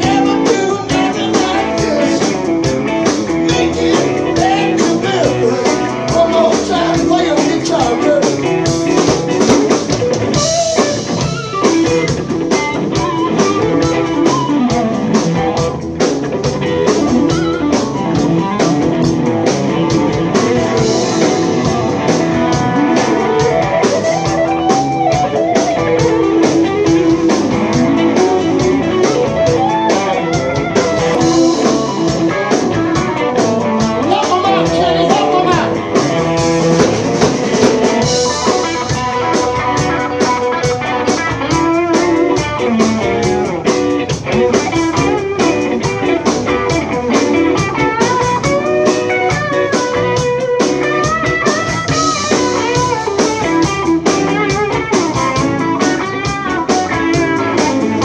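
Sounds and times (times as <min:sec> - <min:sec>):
bass guitar: 0:00.0 - 0:58.0
drums: 0:00.0 - 0:58.0
electric guitar lead: 0:00.0 - 0:58.0.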